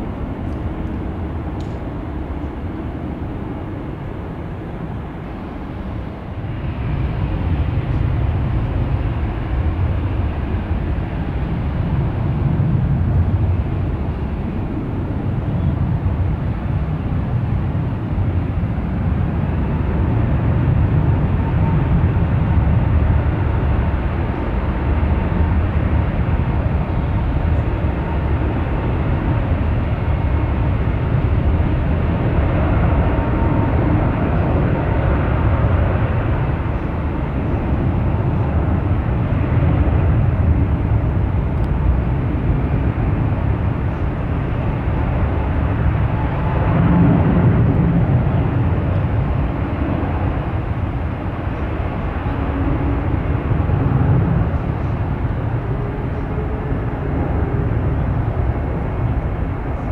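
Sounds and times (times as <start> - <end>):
distant jet engines rumbling: 0.0 - 59.9.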